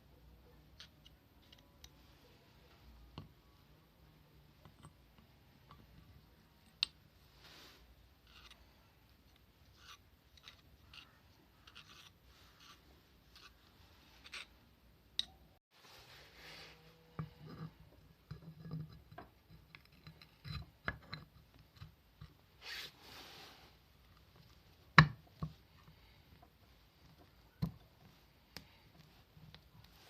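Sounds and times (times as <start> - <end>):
rubbing and scraping small parts: 0.6 - 30.0.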